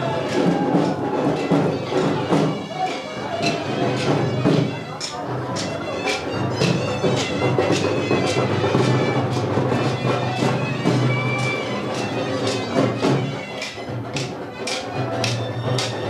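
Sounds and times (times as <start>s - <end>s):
bagpipe music: 0.0s - 16.0s
percussion beat: 0.0s - 16.0s.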